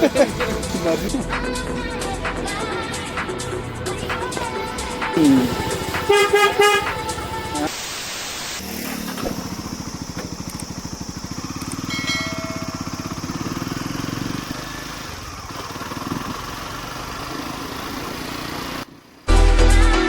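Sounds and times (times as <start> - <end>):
motorcycle engine running: 0.0 - 7.7, 8.6 - 19.5.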